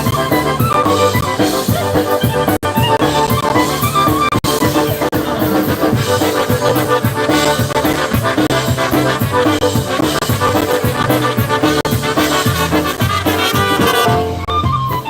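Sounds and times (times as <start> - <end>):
accordion: 0.0 - 15.0
brass horns: 0.0 - 15.0
polka band playing: 0.0 - 15.0
steady drum beat: 0.0 - 15.0.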